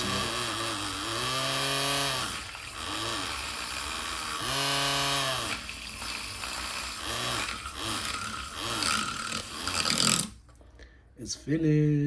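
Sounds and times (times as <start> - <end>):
small electric motor whirring: 0.0 - 10.4.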